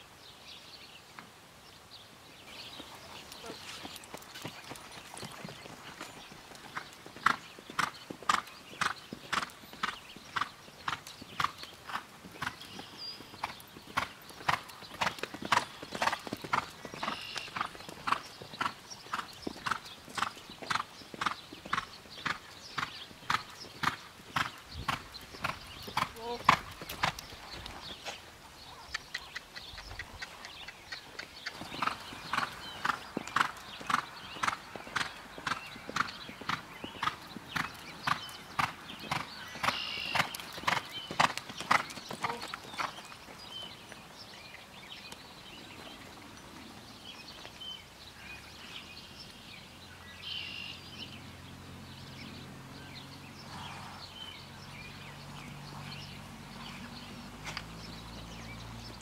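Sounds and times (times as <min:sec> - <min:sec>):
horse hooves on dirt: 0:02.3 - 0:49.5, 0:50.3 - 0:59.0.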